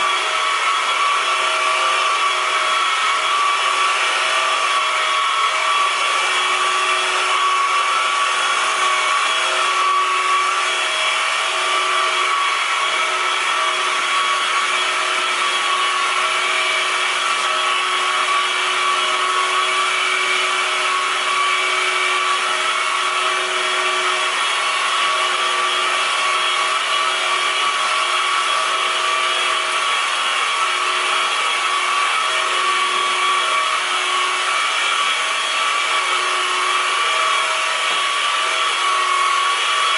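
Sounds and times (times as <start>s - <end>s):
steady droning with whining tones: 0.0s - 39.9s.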